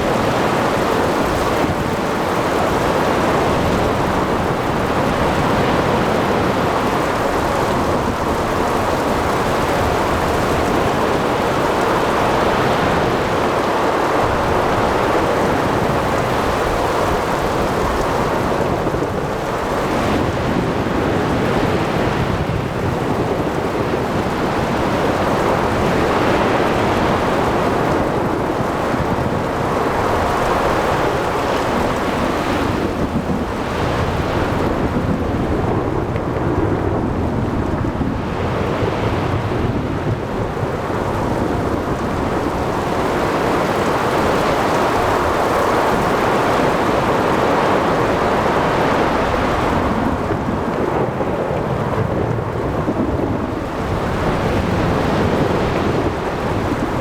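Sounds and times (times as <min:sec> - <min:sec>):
breaking waves: 0:00.0 - 0:57.0
rain: 0:00.0 - 0:57.0
wind: 0:00.0 - 0:57.0.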